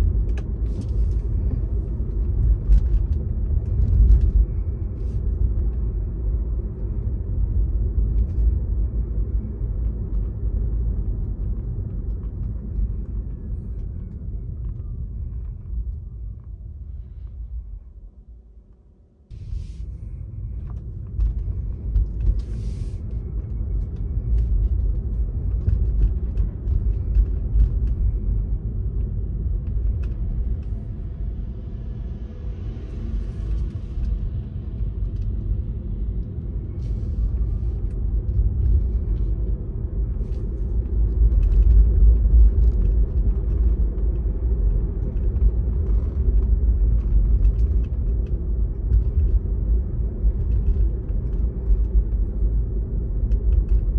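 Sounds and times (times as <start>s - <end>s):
road and engine rumble: 0.0s - 53.9s.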